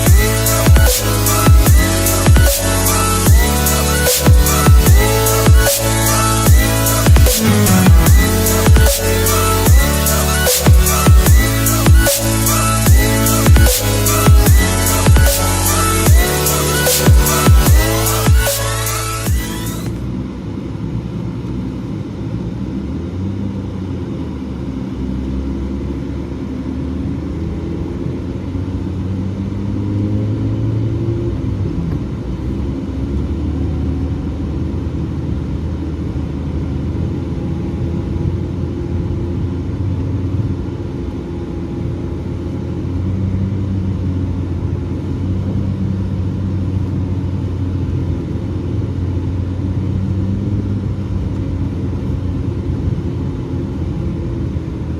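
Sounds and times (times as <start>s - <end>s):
car engine rumble: 0.0s - 54.9s.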